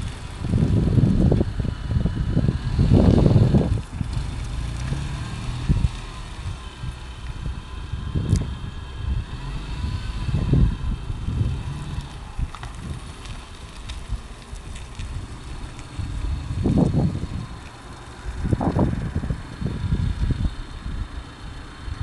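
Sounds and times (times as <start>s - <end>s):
small car engine running: 0.0s - 22.0s
wind buffeting microphone: 0.0s - 22.0s.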